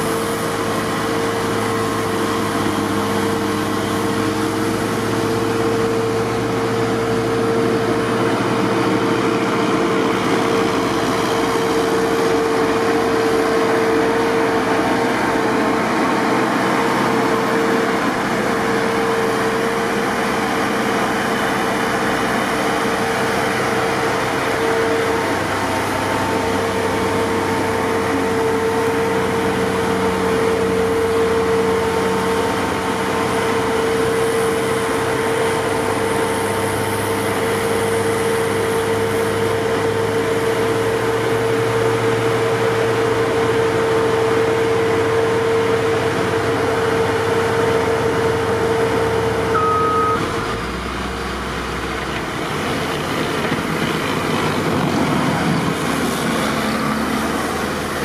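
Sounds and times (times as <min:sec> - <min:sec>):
snow-clearing machinery droning: 0:00.0 - 0:58.0.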